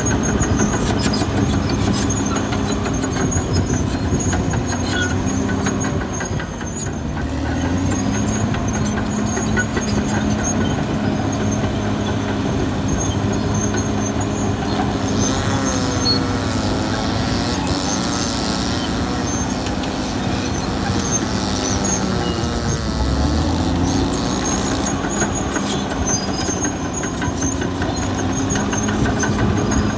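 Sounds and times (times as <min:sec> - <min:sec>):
bulldozer diesel engine running: 0:00.0 - 0:29.9
steel tracks clattering: 0:00.0 - 0:29.9.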